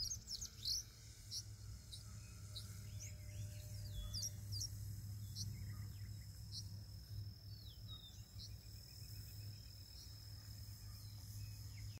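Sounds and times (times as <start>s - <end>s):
bird chirps: 0.0s - 6.8s, 7.5s - 12.0s
insects trilling: 0.0s - 12.0s.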